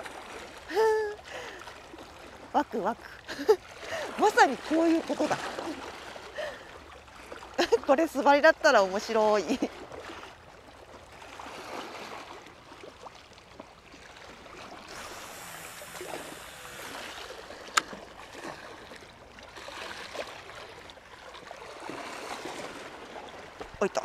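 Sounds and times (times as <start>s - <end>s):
waves lapping on rocky shore: 0.0s - 24.0s.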